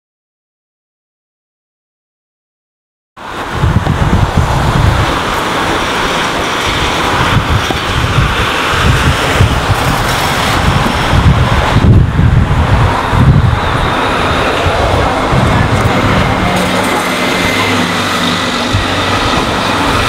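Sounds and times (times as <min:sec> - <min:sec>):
street traffic: 0:03.2 - 0:20.0
wind buffeting microphone: 0:03.2 - 0:20.0.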